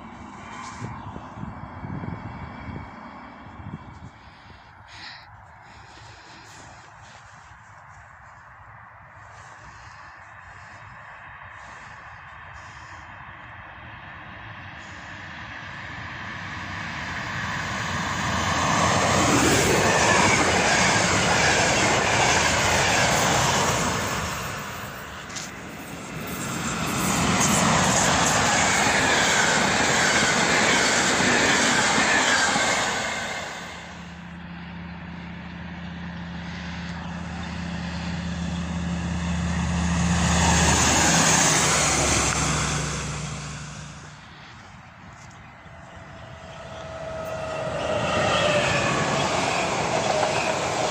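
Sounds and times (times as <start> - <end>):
electric trains passing at speed: 0.0 - 50.9.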